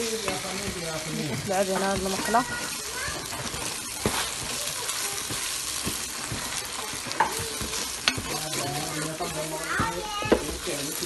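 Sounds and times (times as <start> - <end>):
onion and tomato sizzling in a pan: 0.0 - 11.0
utensil stirring and knocking on pan: 0.0 - 11.0.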